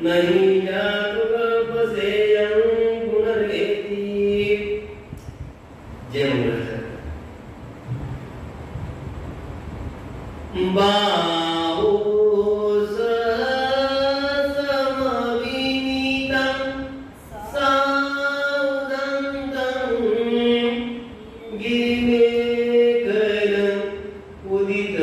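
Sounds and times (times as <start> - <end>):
man chanting into a microphone: 0.0 - 5.1, 6.1 - 7.0, 10.5 - 25.0.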